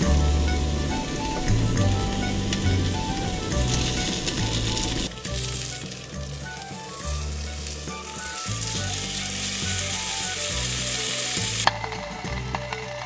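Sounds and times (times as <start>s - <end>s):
steak sizzling: 0.0s - 13.0s.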